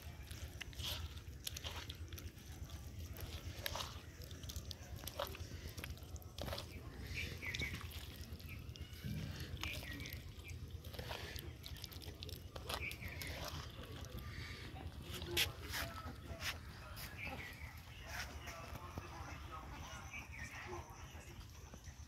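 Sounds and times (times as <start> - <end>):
hands squishing wet marinade: 0.0 - 22.0.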